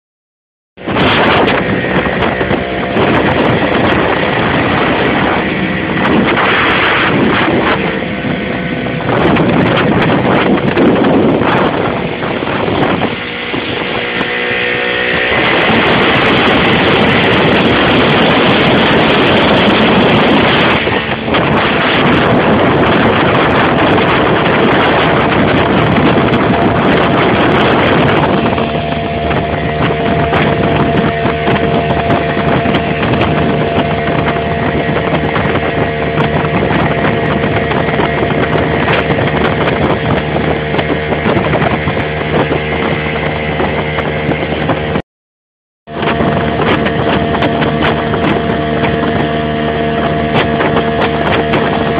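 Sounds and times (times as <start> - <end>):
motorboat engine running: 0.8 - 45.0, 45.9 - 51.9
rushing water: 0.8 - 45.0, 45.9 - 51.9
wind buffeting microphone: 0.8 - 45.0, 45.9 - 51.9.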